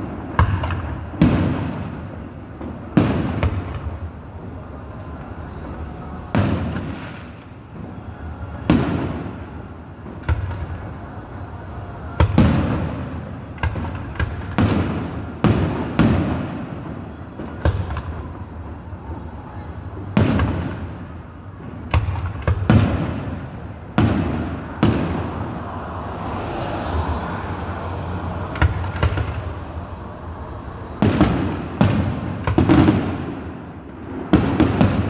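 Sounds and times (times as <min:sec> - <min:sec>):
distant fireworks booming: 0:00.0 - 0:35.0.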